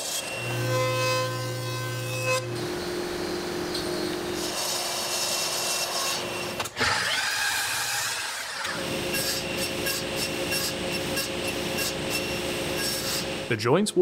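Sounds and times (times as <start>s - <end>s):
power tools cutting wood: 0.0s - 13.5s.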